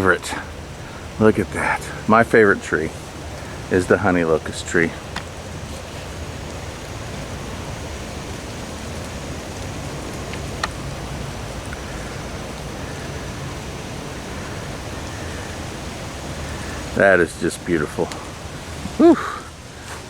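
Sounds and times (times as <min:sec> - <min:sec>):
rain through tree leaves: 0:00.0 - 0:20.0.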